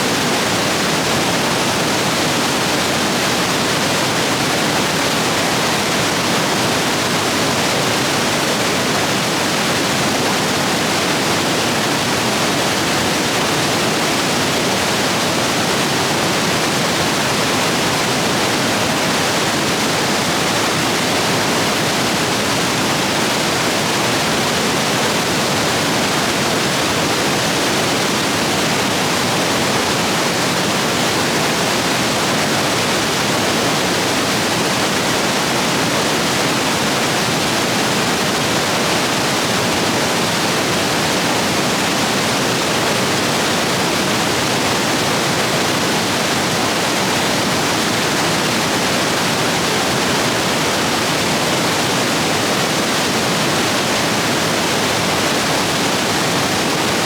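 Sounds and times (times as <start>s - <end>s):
rushing water of rapids: 0.0s - 57.0s.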